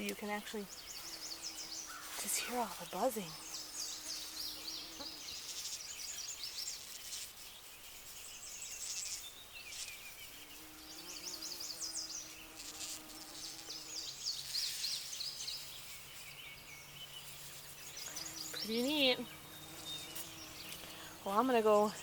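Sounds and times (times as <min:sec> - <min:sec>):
bumblebees buzzing faintly: 0:00.0 - 0:22.0.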